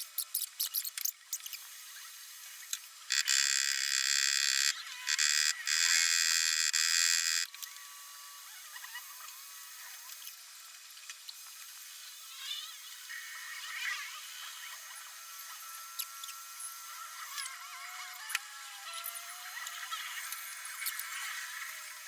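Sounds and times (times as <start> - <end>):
small motorised tool buzzing: 0.0 - 22.0.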